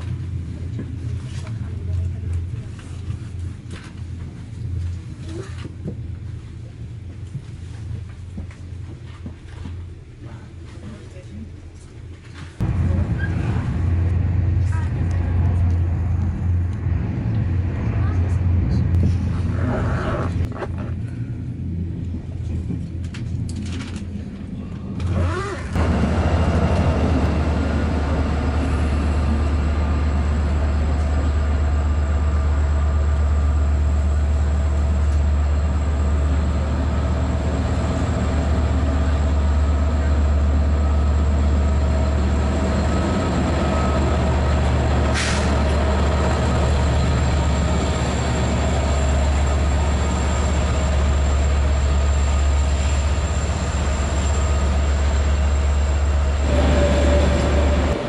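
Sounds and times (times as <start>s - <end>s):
diesel locomotive droning: 0.0s - 58.0s
rumble inside train: 0.0s - 58.0s.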